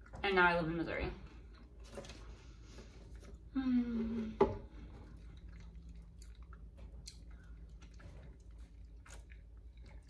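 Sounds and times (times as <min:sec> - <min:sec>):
faint chewing of a snack: 0:01.2 - 0:10.0.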